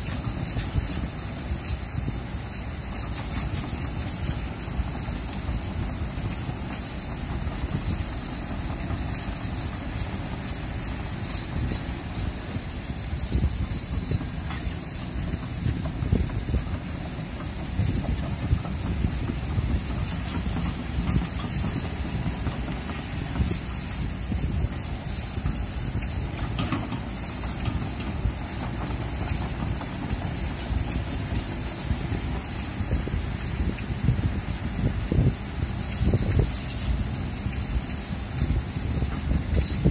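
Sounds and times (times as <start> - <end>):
excavator diesel engine running: 0.0 - 39.9
wind buffeting microphone: 0.0 - 39.9.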